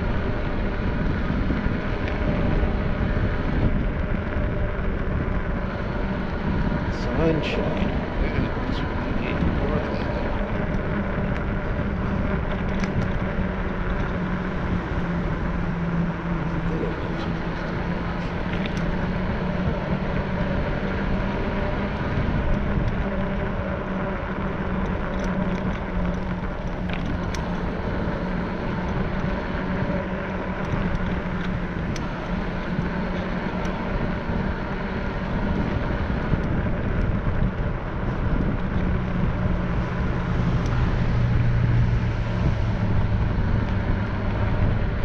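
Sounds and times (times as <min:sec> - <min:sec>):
constant low hum: 0:00.0 - 0:45.0
road and wind noise: 0:00.0 - 0:45.0.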